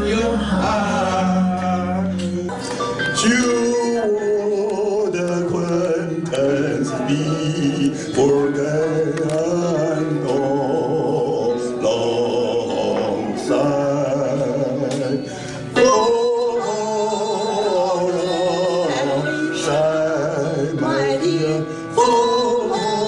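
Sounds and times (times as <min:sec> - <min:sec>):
backing music: 0:00.0 - 0:23.0
man singing into microphone: 0:00.0 - 0:23.0.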